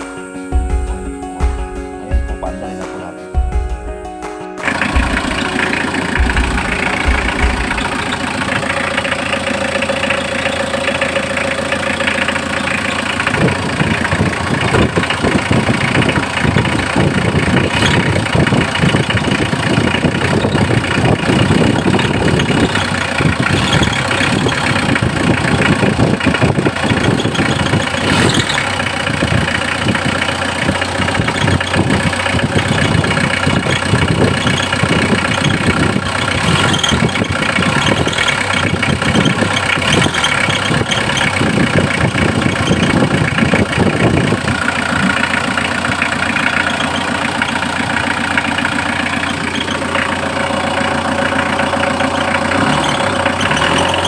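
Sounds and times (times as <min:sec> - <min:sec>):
steady whine: 0:00.0 - 0:54.0
van engine idling: 0:00.0 - 0:54.0.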